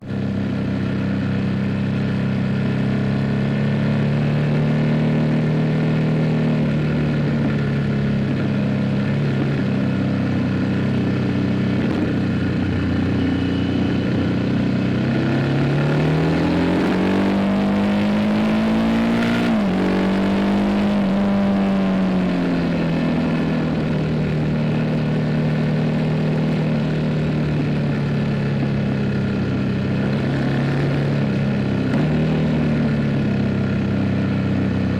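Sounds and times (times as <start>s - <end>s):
motorcycle engine running and revving: 0.0s - 34.9s.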